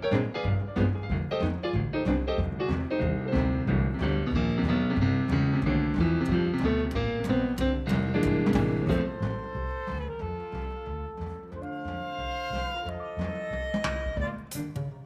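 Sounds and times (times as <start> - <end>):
bass line: 0.0 - 15.0
early jazz band playing: 0.0 - 15.0
piano chords: 0.0 - 15.0.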